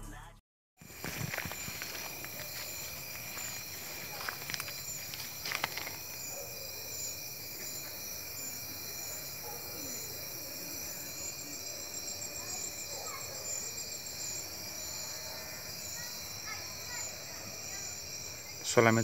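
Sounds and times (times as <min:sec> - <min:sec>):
crickets and cicadas trilling: 0:00.8 - 0:19.0.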